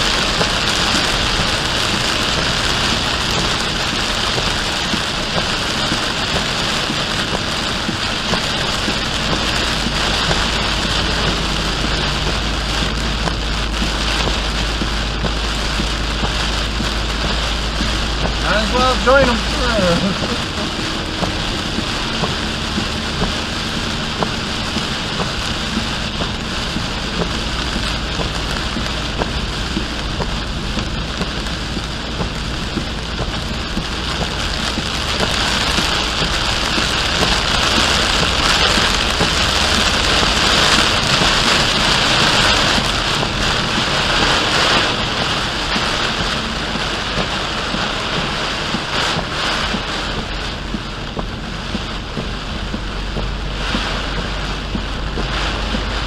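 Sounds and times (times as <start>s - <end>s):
engine and tyre hum: 0.0s - 56.0s
heavy rain pelting a car: 0.0s - 56.0s.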